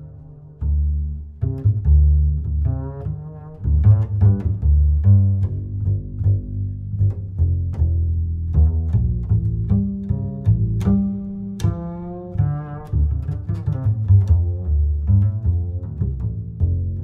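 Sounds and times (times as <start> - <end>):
deep bass line: 0.0 - 17.0.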